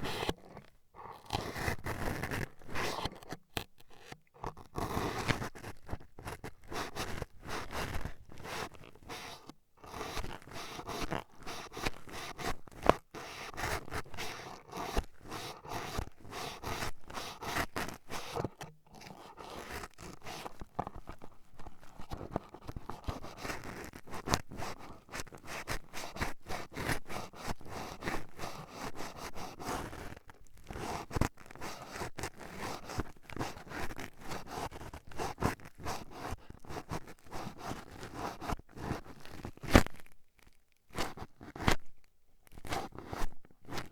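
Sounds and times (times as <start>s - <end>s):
toothpicks scraping a microphone: 0.0s - 40.1s, 42.5s - 43.9s.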